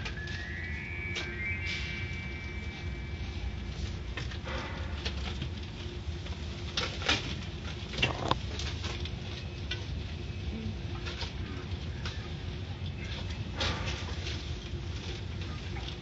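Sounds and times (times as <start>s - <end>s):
low rumble of wash machinery: 0.0s - 16.0s.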